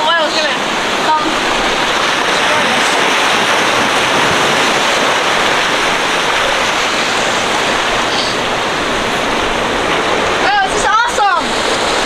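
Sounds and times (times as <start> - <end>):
surf breaking on rocks: 0.0 - 12.0.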